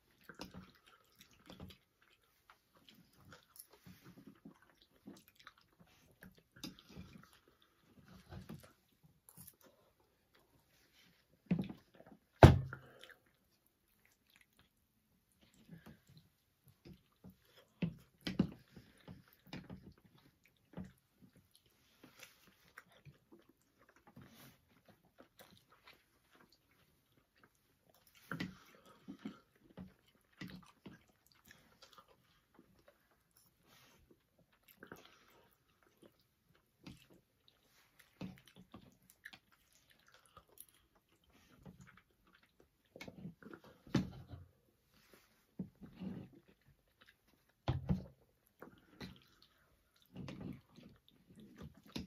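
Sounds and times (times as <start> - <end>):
person chewing pasta: 0.0 - 52.0.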